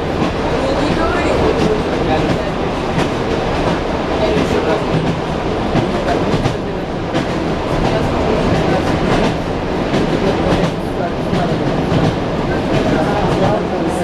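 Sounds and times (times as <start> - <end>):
train running rumble: 0.0 - 14.0
train wheels clattering over rail joints: 1.4 - 14.0.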